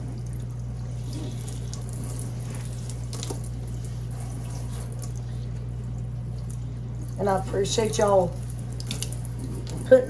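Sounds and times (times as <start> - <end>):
low electrical hum: 0.0 - 10.0
water running from tap: 0.0 - 10.0.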